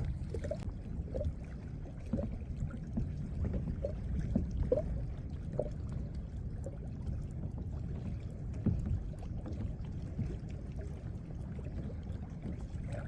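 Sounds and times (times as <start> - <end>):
low steady rumble: 0.0 - 13.0
water lapping against hull: 0.0 - 13.0.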